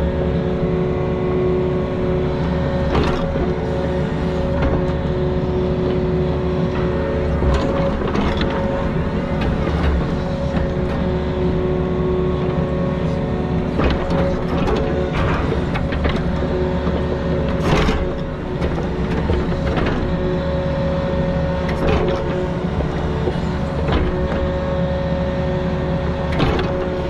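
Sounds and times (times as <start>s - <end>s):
diesel engine running: 0.0s - 27.0s
hydraulic whine: 0.0s - 27.0s.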